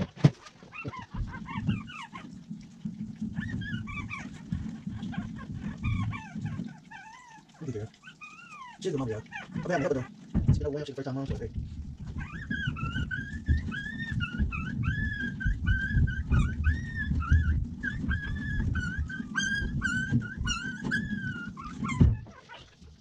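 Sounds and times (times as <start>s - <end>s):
puppy squealing: 0.7s - 2.3s, 3.4s - 10.1s, 12.0s - 22.7s.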